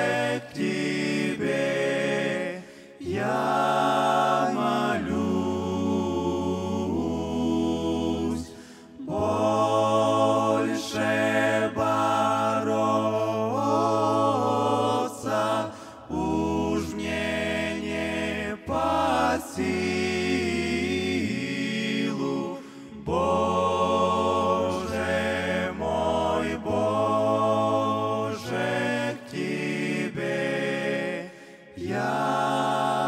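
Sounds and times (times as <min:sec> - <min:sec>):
male choir singing a hymn: 0:00.0 - 0:33.0.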